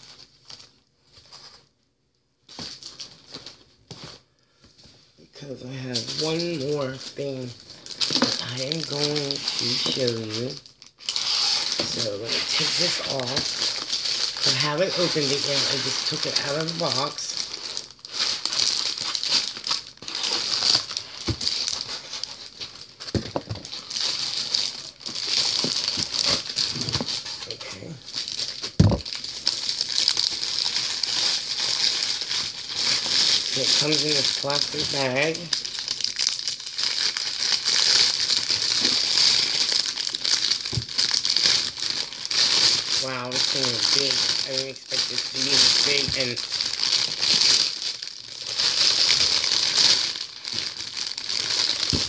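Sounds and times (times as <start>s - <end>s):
plastic bag crinkling: 5.5s - 52.0s.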